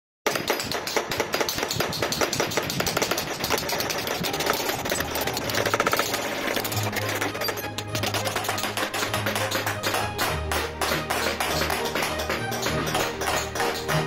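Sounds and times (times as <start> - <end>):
hammers tapping metal punches: 0.3 - 14.0.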